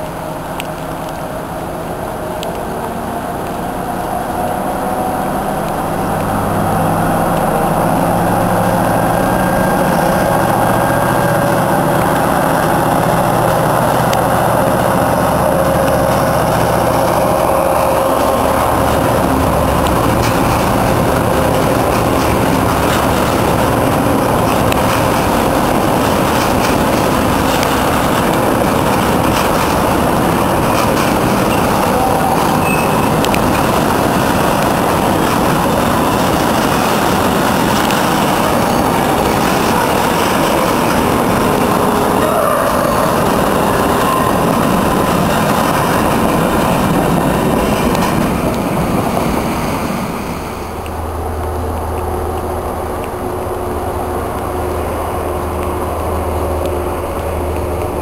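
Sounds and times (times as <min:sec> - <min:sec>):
diesel locomotive engine drone: 0:00.0 - 0:58.0
train wheels rumbling: 0:00.0 - 0:58.0.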